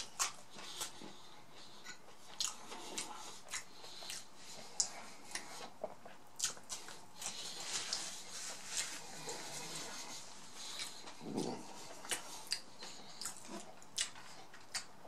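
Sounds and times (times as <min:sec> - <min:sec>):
person chewing fries: 0:00.0 - 0:15.0.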